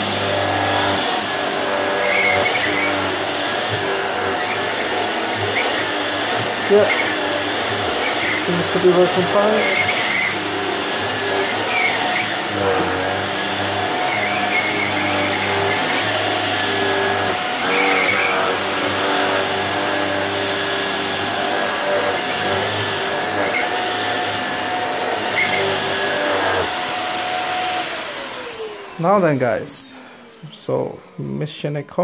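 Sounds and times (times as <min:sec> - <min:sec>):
vacuum cleaner running over carpet: 0:00.0 - 0:31.4.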